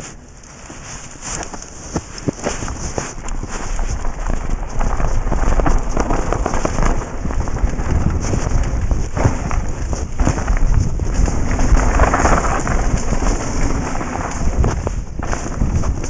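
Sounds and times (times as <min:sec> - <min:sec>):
tyres crunching on dirt: 0:00.0 - 0:16.0
bike clattering over bumps: 0:01.3 - 0:16.0
wind rushing over microphone: 0:01.5 - 0:16.0.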